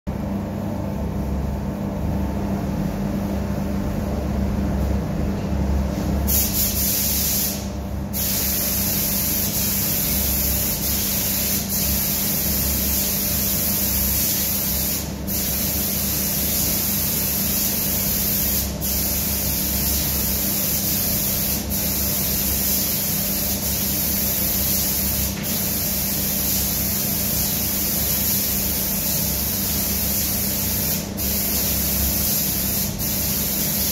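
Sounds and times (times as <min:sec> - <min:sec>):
spray gun hissing: 0:06.3 - 0:33.9.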